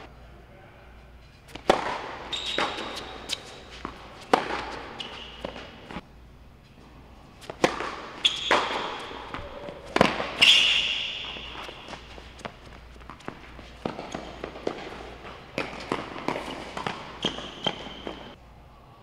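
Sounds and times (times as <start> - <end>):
shoes squeaking on court: 1.2 - 6.0, 6.7 - 18.4
rackets striking tennis ball: 1.4 - 6.0, 7.4 - 18.4
tennis ball bouncing: 1.5 - 6.0, 7.4 - 18.4.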